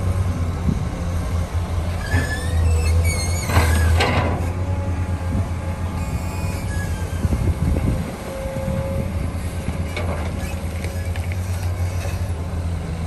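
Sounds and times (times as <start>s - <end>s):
rush of sliding soil and rock: 0.0s - 13.0s.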